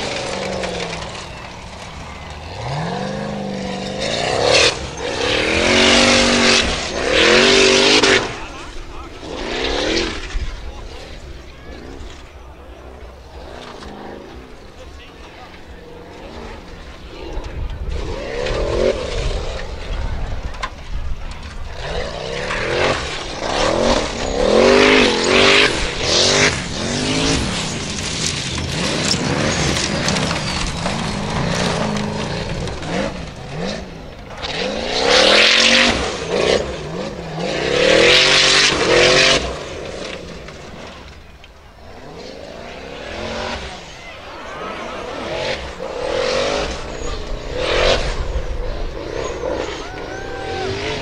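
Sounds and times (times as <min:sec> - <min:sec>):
buggy engine revving: 0:00.0 - 0:51.0.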